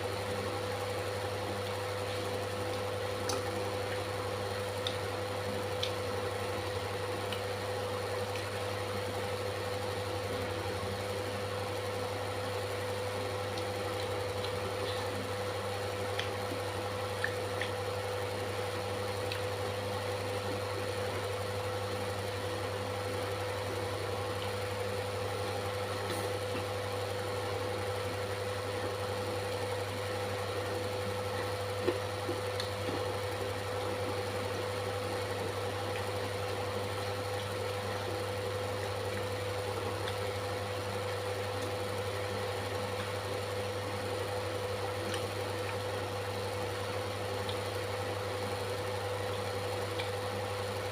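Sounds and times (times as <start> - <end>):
machine humming: 0.0 - 50.9.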